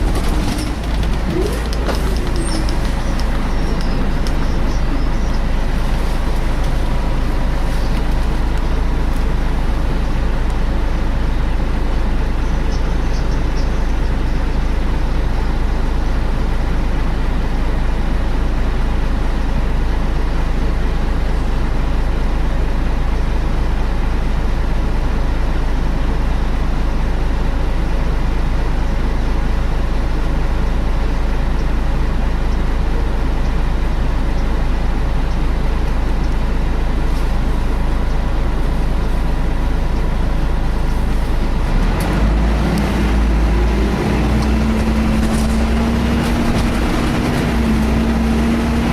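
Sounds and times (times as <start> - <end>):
bus engine and road noise: 0.0 - 48.9
steady hum: 0.0 - 48.9.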